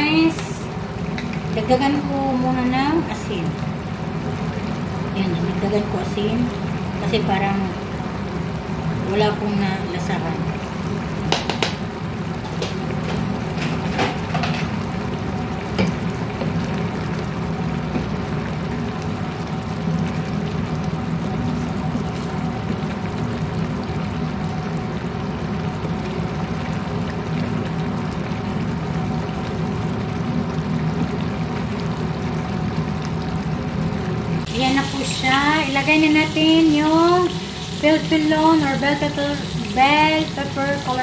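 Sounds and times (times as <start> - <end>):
stew bubbling in a pan: 0.0 - 41.0.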